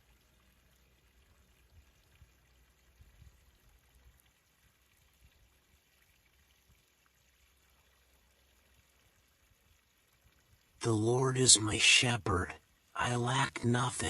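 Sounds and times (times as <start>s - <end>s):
faint babbling water: 0.0s - 14.0s.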